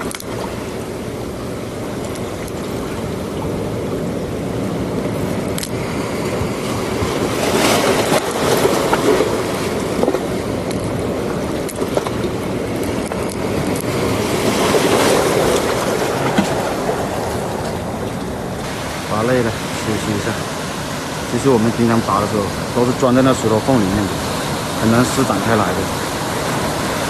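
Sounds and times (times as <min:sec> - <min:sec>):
sea waves breaking: 0:00.0 - 0:27.0
wind: 0:00.0 - 0:27.0.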